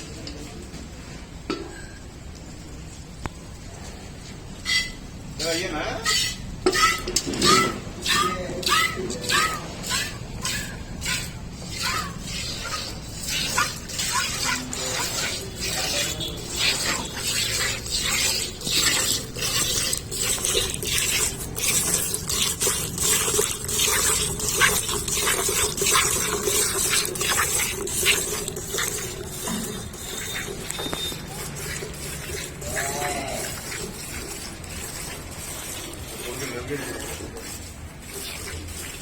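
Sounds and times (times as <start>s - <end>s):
milk squirting into a pail: 7.0s - 39.0s.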